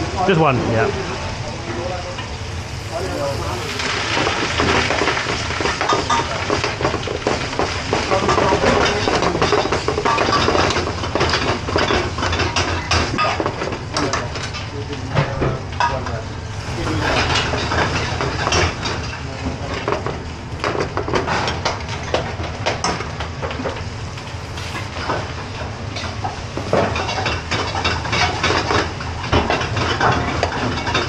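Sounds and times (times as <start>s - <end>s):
rushing kitchen background: 0.0s - 31.0s.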